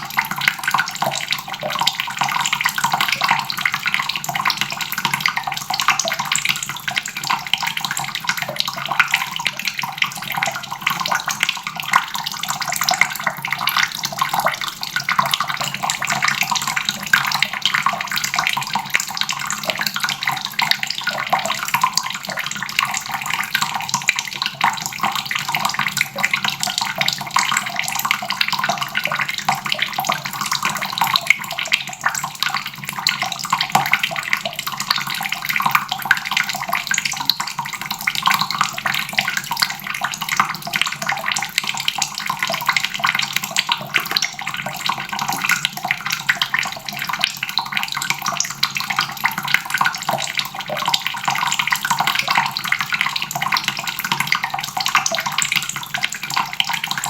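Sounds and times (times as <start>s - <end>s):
faucet water splashing into basin: 0.0s - 57.0s.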